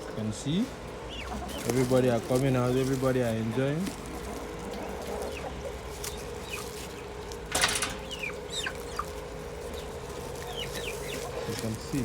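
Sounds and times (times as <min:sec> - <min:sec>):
poultry peeping: 0:00.0 - 0:12.0.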